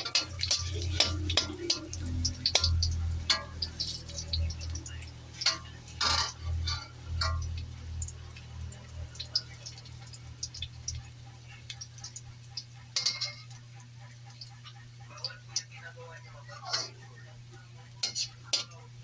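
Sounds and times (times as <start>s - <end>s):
garlic frying in oil: 0.0s - 19.0s
low steady hum: 0.0s - 19.0s.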